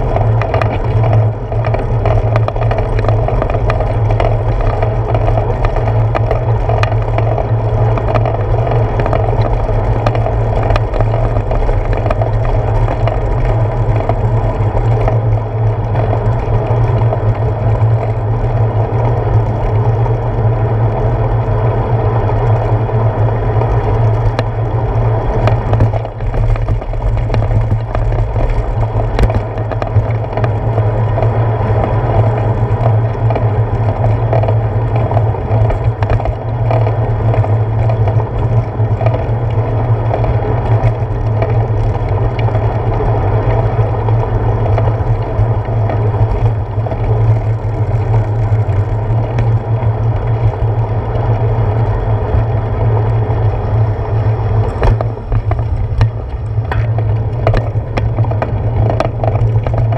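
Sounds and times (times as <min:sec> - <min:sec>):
bicycle tyre rumble on pavement: 0:00.0 - 0:59.9
small clicks and rattles: 0:00.0 - 0:59.9.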